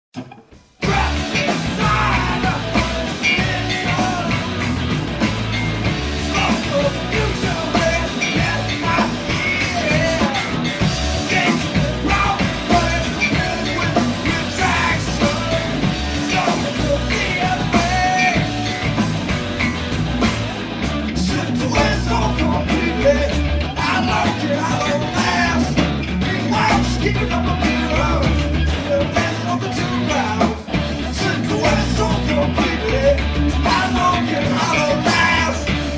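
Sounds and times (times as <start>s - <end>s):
rock band playing live: 0.1s - 35.9s
person singing: 0.8s - 4.9s, 6.2s - 18.8s, 20.9s - 35.9s.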